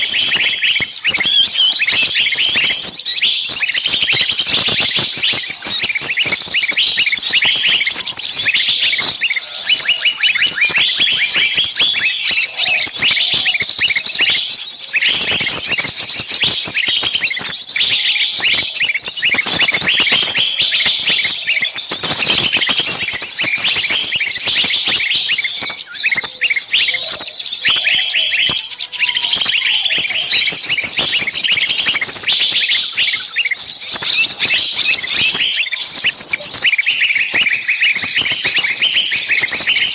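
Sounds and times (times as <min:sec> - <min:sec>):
songbirds chirping shrilly: 0:00.0 - 0:39.9.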